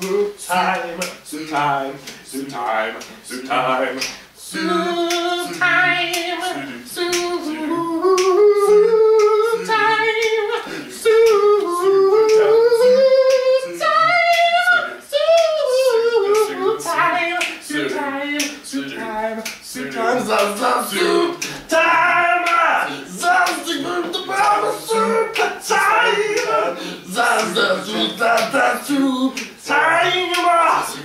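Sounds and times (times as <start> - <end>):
men singing a cappella doo-wop: 0.0 - 31.0.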